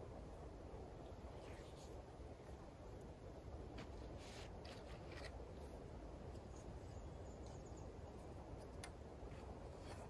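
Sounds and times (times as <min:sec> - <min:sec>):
low rumble and hiss: 0:00.0 - 0:10.0.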